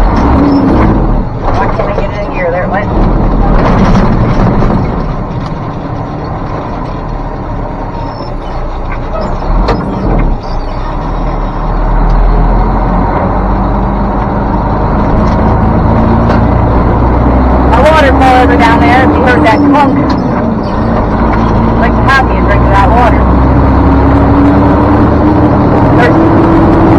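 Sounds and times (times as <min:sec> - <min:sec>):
diesel truck engine under load: 0:00.0 - 0:26.9.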